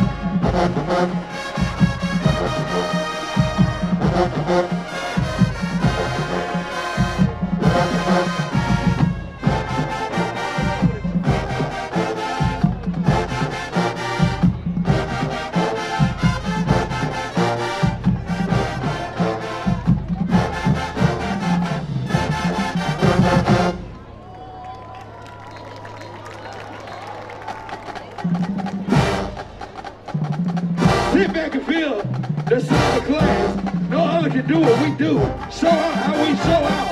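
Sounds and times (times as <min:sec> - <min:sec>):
low brass bass line: 0:00.0 - 0:24.0, 0:30.8 - 0:36.9
marching band brass and drums: 0:00.0 - 0:24.3, 0:25.1 - 0:36.9.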